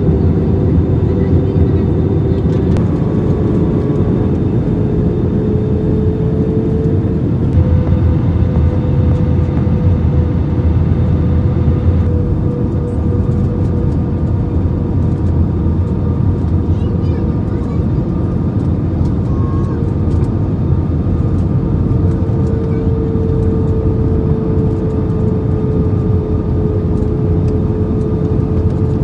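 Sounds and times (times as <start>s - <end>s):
airliner cabin engine rumble: 0.0s - 29.0s
humming engine tone: 0.0s - 29.0s.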